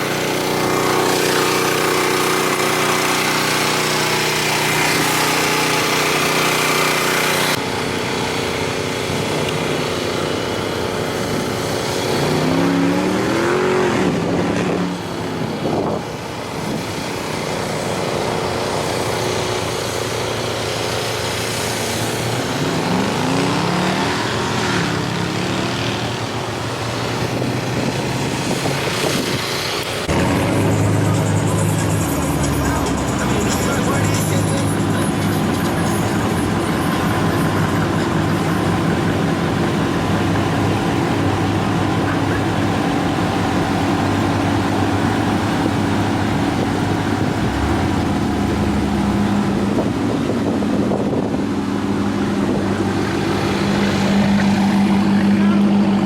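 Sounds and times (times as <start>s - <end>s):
car engine running: 0.0s - 56.0s
engines revving: 0.0s - 56.0s.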